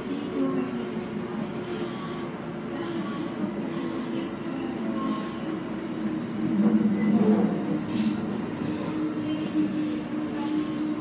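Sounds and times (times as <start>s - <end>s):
steady hum: 0.0s - 11.0s
train rumble and rail noise: 0.0s - 11.0s.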